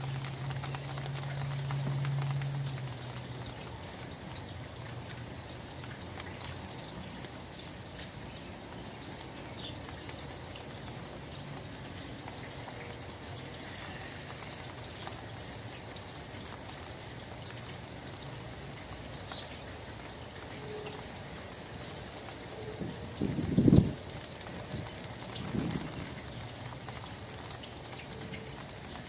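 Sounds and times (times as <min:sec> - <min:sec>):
rain pattering on umbrella: 0:00.0 - 0:29.0.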